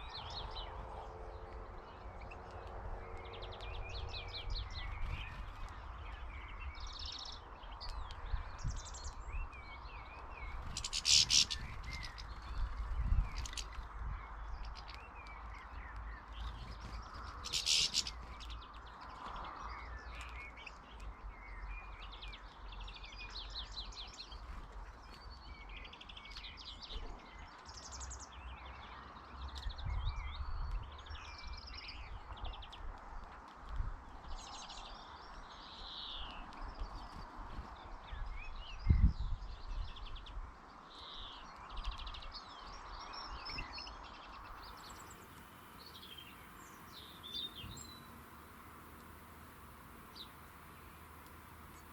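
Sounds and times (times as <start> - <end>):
songbirds chirping and twittering: 0.0 - 51.9.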